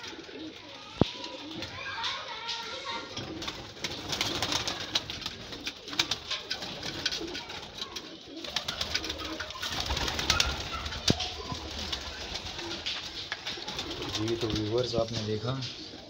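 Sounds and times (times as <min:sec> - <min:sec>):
beaks pecking on ground and tray: 0:00.0 - 0:16.0
pigeons cooing: 0:00.0 - 0:16.0.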